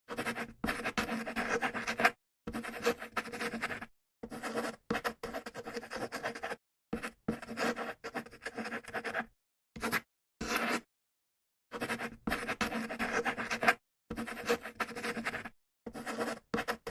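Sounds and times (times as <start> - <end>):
pen scratching on paper: 0.1 - 10.9, 11.7 - 16.9.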